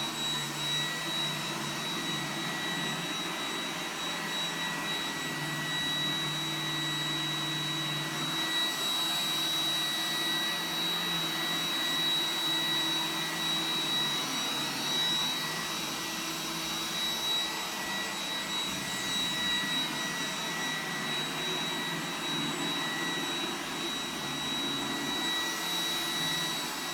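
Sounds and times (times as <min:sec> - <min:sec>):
robot vacuum whining on carpet: 0:00.0 - 0:26.9.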